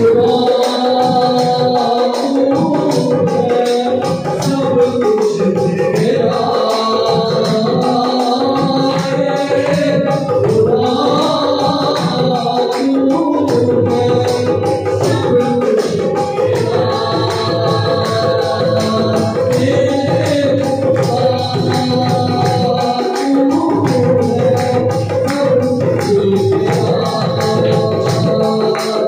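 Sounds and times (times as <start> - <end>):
men singing devotional song: 0.0 - 29.0.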